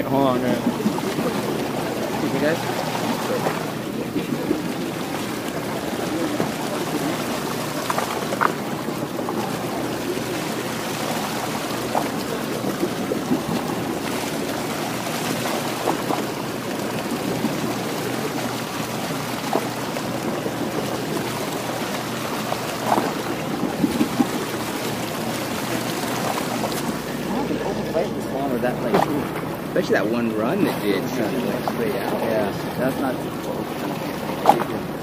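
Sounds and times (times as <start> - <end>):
seawater rushing along boat hull: 0.0 - 35.0.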